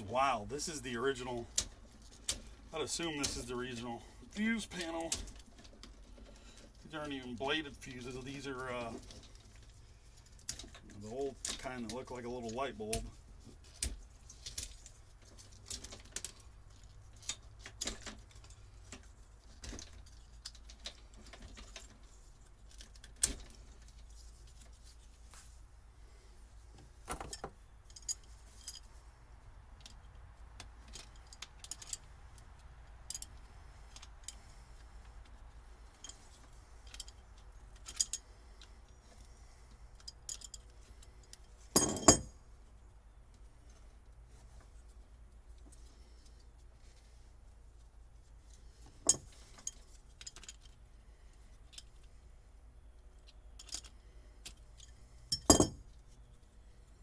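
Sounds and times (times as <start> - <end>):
clinks and rattles of wiring work: 0.0 - 57.0.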